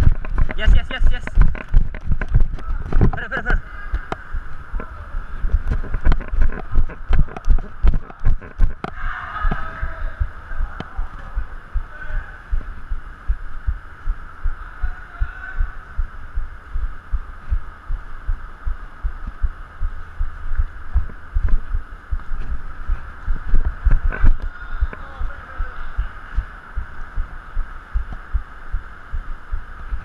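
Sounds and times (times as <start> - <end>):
dull low thumps of footsteps: 0.0 - 11.9, 15.9 - 25.0, 26.0 - 30.0
steady background noise: 0.0 - 30.0.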